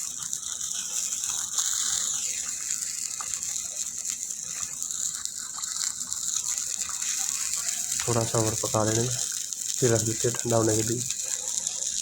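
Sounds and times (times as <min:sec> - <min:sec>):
thick mixture simmering in a pan: 0:00.0 - 0:12.0.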